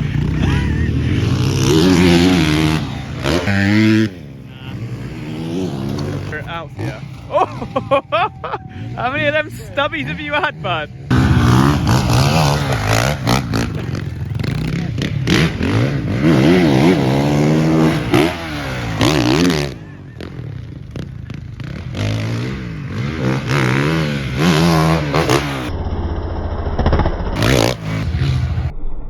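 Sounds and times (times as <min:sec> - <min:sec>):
off-road motorcycle engine revving: 0:00.0 - 0:28.7.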